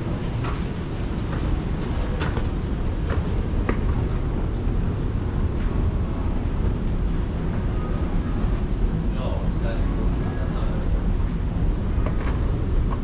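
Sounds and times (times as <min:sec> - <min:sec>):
escalator rumbling: 0:00.0 - 0:13.0.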